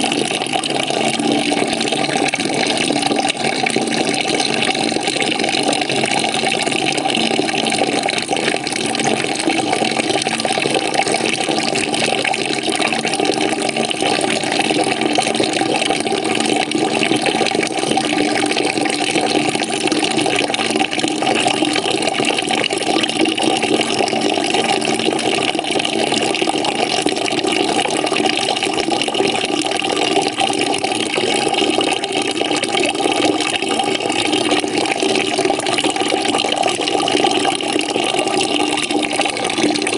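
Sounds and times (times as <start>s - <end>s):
water running into a bucket: 0.0s - 39.9s.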